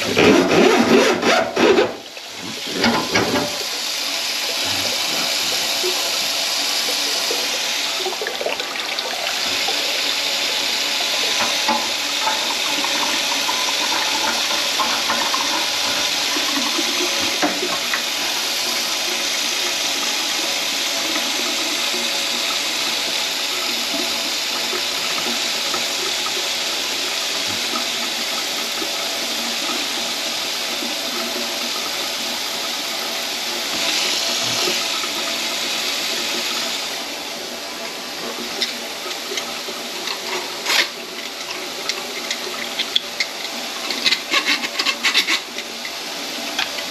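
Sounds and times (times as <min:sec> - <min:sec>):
water draining: 0:01.8 - 0:20.5, 0:21.1 - 0:46.9
faucet running into metal sink: 0:01.8 - 0:46.9.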